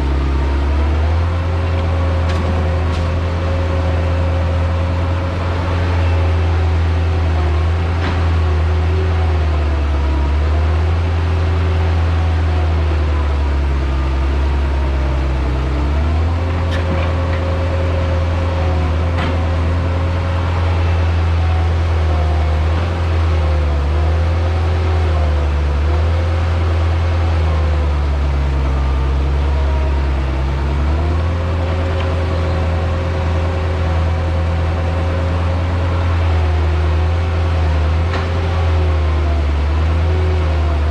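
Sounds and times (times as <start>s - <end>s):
diesel engine of earthmoving machine: 0.0s - 40.9s.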